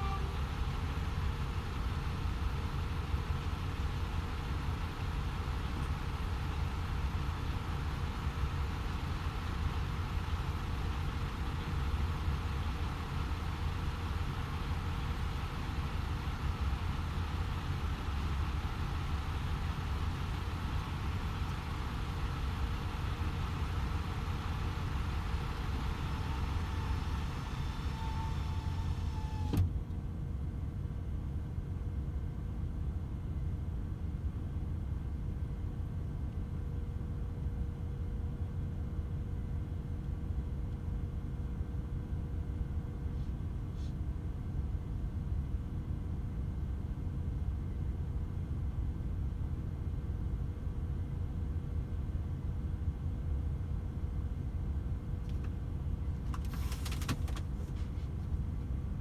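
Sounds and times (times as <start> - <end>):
truck engine and tyres droning: 0.0 - 59.0.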